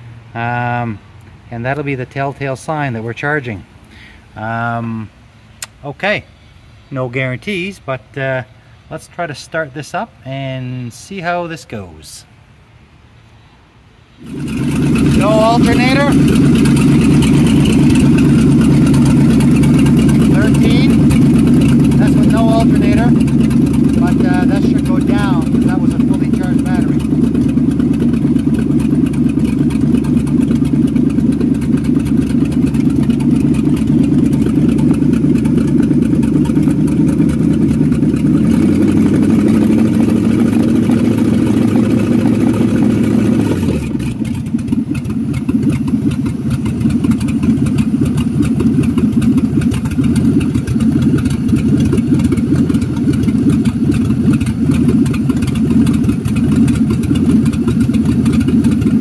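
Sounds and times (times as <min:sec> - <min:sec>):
car engine idling: 0:00.0 - 0:06.9, 0:14.0 - 0:59.0.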